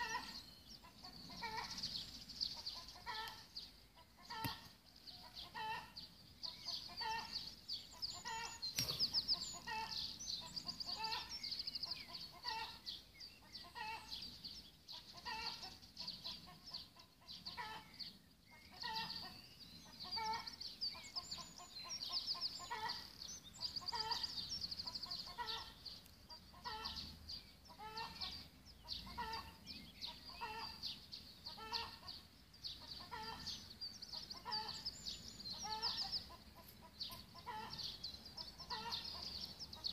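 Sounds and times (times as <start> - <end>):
bird trilled song: 0.0 - 39.9.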